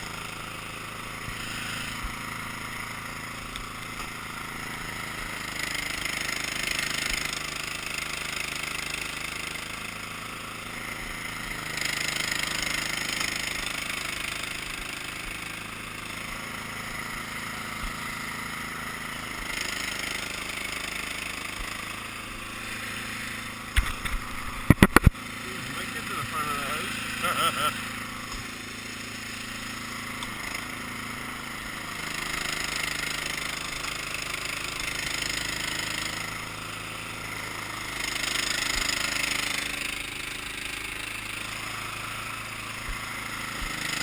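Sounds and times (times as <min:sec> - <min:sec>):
small engine running: 0:00.0 - 0:44.0.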